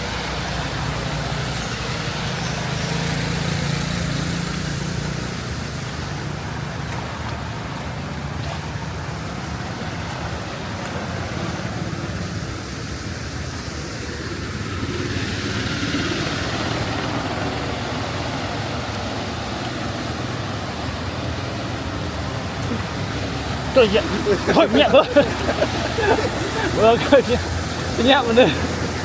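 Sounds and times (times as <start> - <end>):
rushing wash of water: 0.0 - 29.0
vehicle engines running: 0.0 - 29.0.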